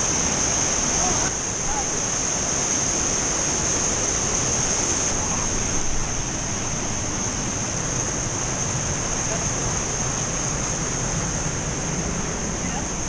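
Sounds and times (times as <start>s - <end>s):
high-pitched hiss: 0.0s - 13.0s
waterfall roaring over rocks: 0.0s - 13.0s.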